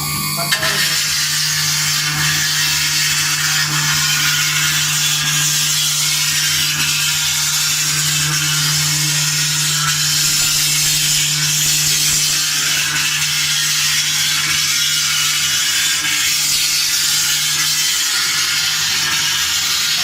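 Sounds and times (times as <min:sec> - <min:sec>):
constant hum: 0:00.0 - 0:20.0
engraving spindle cutting metal: 0:00.0 - 0:20.0.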